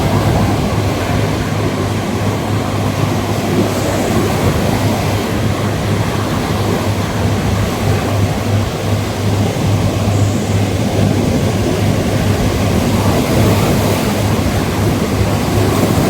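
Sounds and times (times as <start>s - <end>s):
ocean waves washing onto beach: 0.0s - 16.0s.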